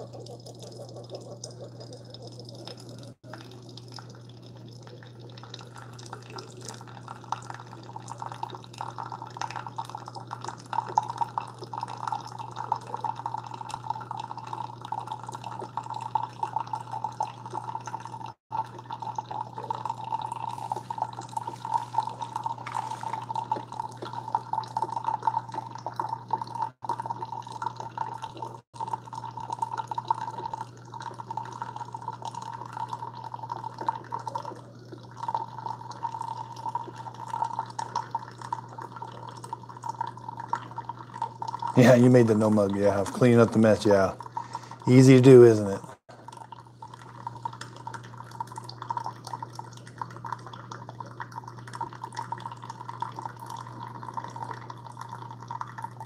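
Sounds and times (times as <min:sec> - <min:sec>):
coffee maker low hum: 0:00.0 - 0:56.0
coffee trickling into mug: 0:00.0 - 0:56.0.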